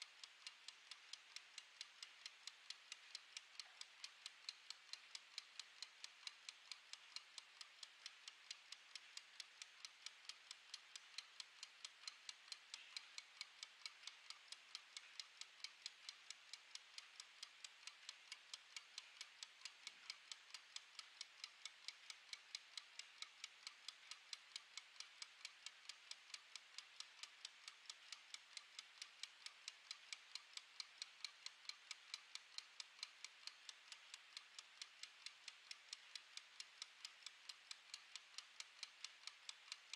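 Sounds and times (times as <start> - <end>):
kitchen timer ticking: 0.0 - 39.9.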